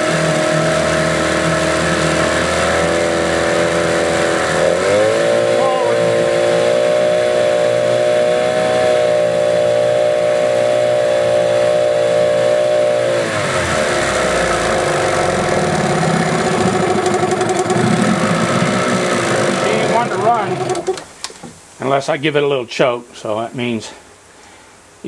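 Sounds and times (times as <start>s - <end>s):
outboard motor running: 0.0s - 21.1s.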